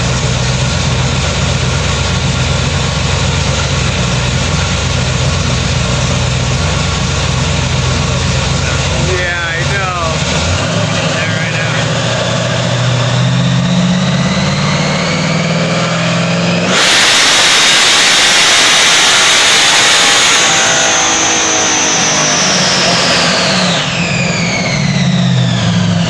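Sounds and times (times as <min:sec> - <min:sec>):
car engine revving: 0:00.0 - 0:26.0
supercharger whine: 0:00.0 - 0:26.0.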